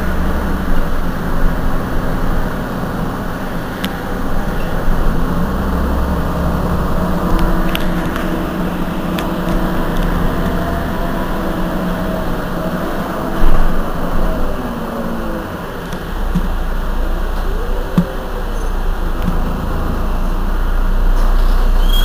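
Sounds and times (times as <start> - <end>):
bus diesel engine idling: 0.0 - 22.0.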